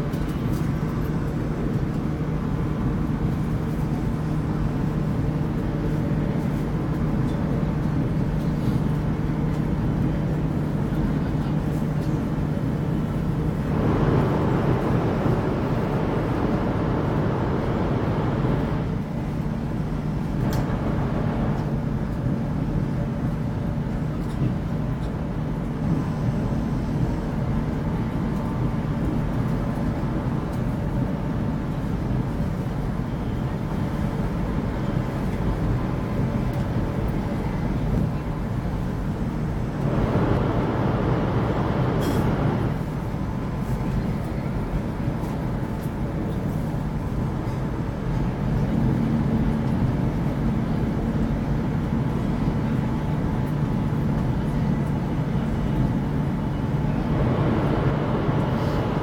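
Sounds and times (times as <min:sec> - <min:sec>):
passing train: 0:00.0 - 0:59.0
train cabin rumble: 0:00.0 - 0:59.0.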